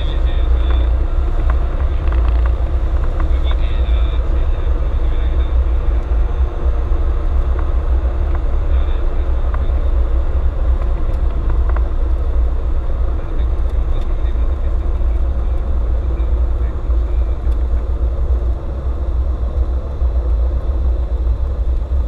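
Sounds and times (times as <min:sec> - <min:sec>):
aircraft engine idling: 0:00.0 - 0:22.0.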